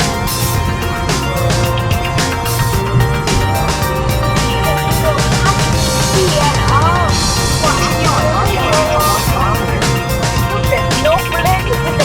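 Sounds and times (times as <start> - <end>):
music from car stereo: 0.0 - 12.0.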